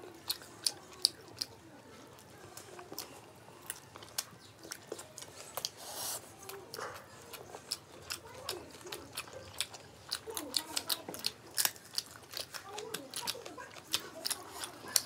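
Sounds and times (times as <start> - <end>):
wet chewing mouth clicks: 0.0 - 1.6, 2.2 - 15.0.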